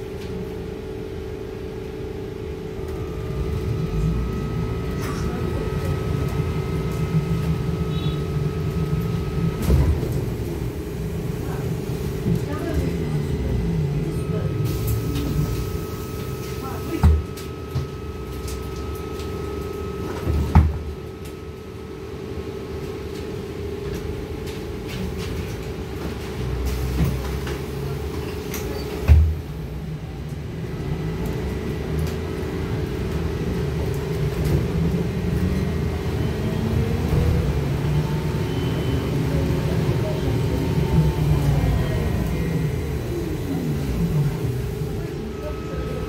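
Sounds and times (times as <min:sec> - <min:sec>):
low rumble of moving trolleybus: 0:00.0 - 0:46.0
trolleybus cabin hum: 0:00.0 - 0:46.0.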